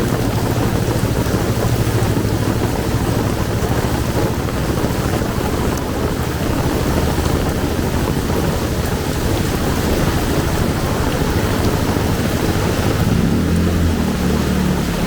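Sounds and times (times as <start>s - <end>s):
heavy rain pouring: 0.0s - 15.0s
low engine hum: 0.0s - 15.0s.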